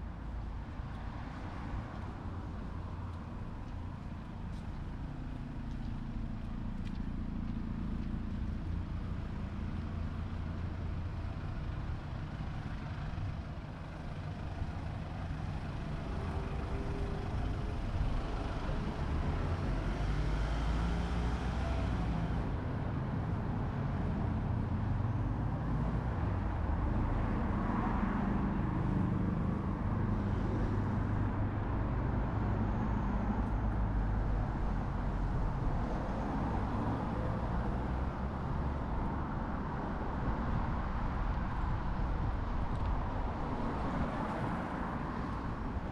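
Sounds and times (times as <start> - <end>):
vehicle engine and tyre rumble: 0.0 - 45.9.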